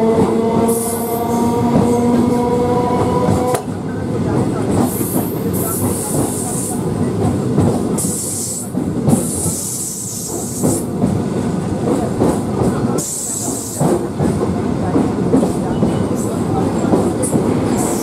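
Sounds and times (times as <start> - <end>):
train rumbling and rattling on track: 0.0 - 18.0.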